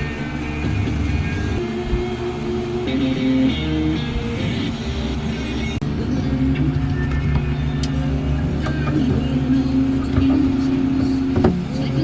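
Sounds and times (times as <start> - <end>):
guitar music on a radio: 0.0 - 12.0.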